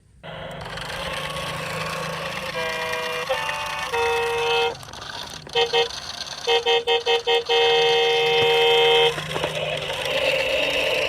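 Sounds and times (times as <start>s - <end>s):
engine hum and hiss: 0.0s - 11.0s
horn toots: 0.2s - 11.0s.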